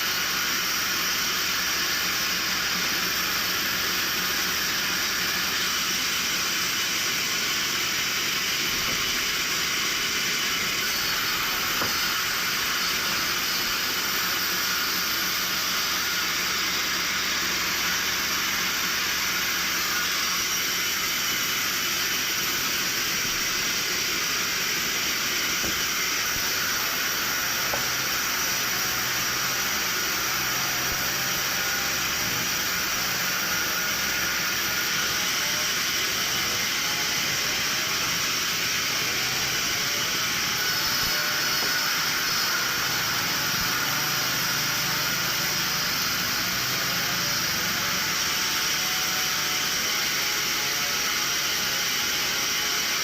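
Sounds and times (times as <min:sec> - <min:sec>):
sawmill machinery hissing: 0:00.0 - 0:53.0.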